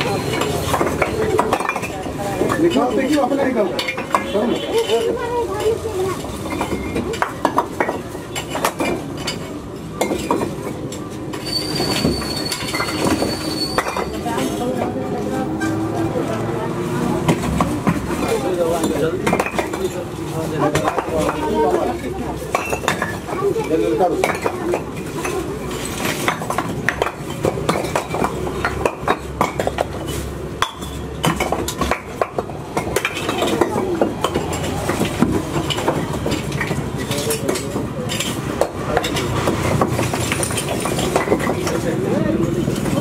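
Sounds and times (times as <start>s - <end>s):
bricks clattering on rubble: 0.0s - 4.3s, 6.2s - 14.2s, 17.3s - 43.0s.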